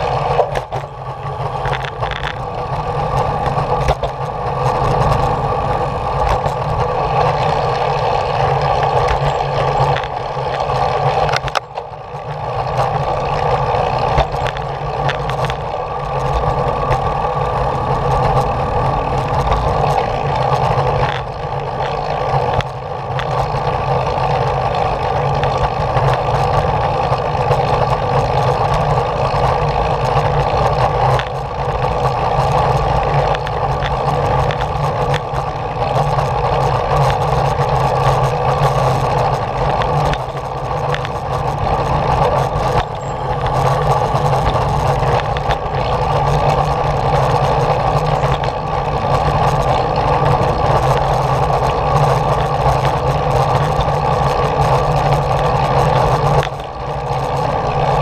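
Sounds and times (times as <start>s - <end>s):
engine drone: 0.0s - 58.0s
wheels rolling on concrete: 0.0s - 58.0s.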